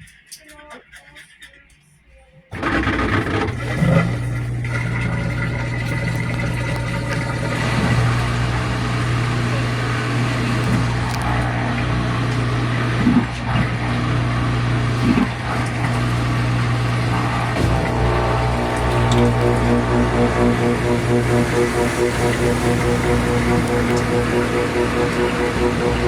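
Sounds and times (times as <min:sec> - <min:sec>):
washer drain pump humming: 0:02.5 - 0:26.0
water gurgles: 0:02.6 - 0:26.0
water rushing: 0:03.5 - 0:26.0.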